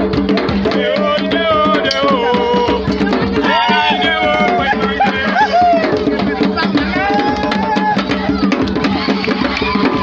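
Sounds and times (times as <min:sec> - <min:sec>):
hand drums beaten fast: 0:00.0 - 0:10.0
voices singing: 0:00.6 - 0:10.0.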